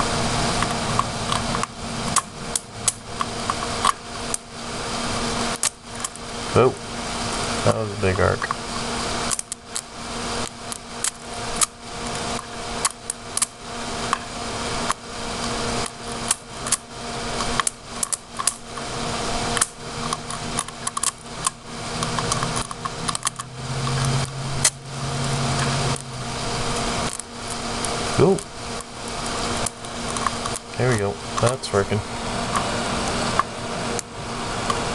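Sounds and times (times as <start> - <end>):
crackling electrical arc: 0.0 - 33.4
faint hum: 0.0 - 34.9
low buzz: 0.0 - 34.9.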